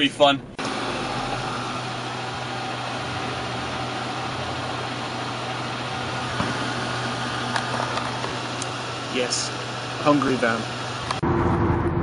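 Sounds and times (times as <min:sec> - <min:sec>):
van engine and road hum: 0:00.0 - 0:12.0.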